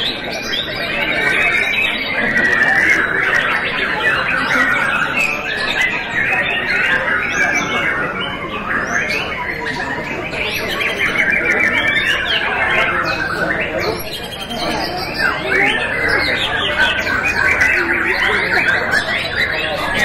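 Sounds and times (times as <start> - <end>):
songbirds singing in chorus: 0.0 - 20.0.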